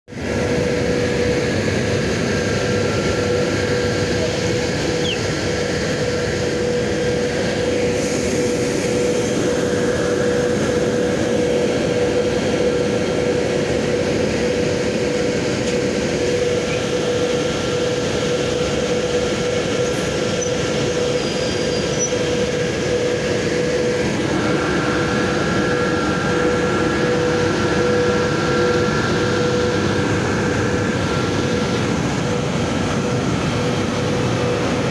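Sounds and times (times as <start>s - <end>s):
electric locomotive hum: 0.1s - 34.9s
high-pitched machinery whines: 0.1s - 34.9s.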